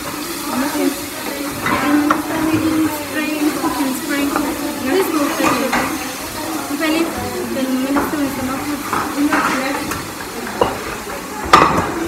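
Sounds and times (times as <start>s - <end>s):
wooden spoon stirring in pot: 0.0s - 11.6s
women talking indistinctly: 0.0s - 12.0s.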